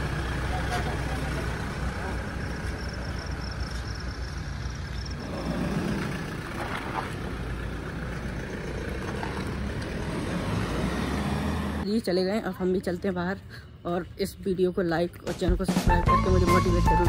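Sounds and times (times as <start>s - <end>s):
vehicles rumbling past: 0.0s - 14.6s.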